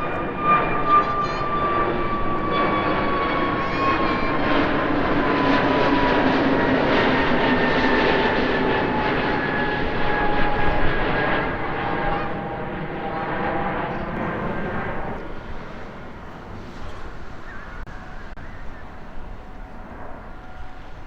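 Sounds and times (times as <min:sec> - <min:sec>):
jet engines passing by: 0:00.0 - 0:21.0.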